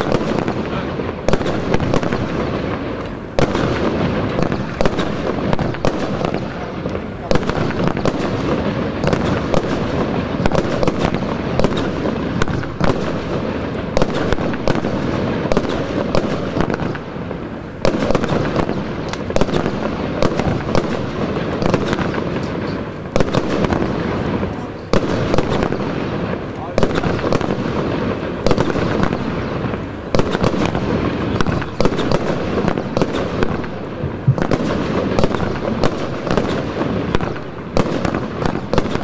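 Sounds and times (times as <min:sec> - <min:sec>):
firework bangs: 0:00.0 - 0:39.0
firework hiss: 0:00.0 - 0:39.0.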